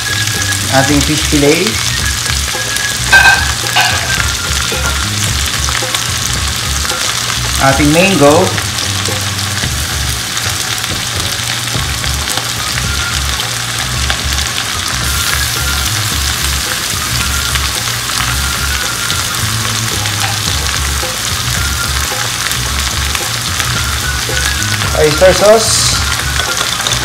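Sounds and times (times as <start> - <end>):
background music with bassline: 0.0 - 27.0
food sizzling in a pan: 0.0 - 27.0
spatula turning food in pan: 0.0 - 27.0.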